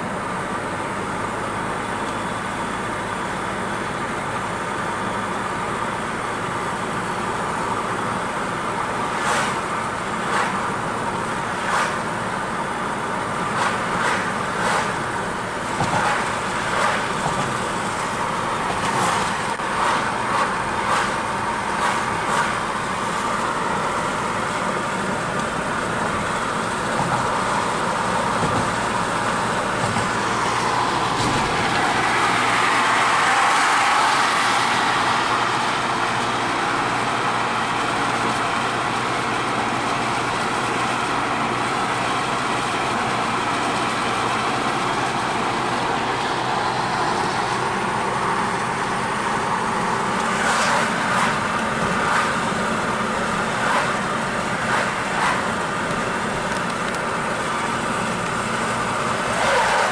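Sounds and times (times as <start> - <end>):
car tyre and engine noise: 0.0 - 59.9.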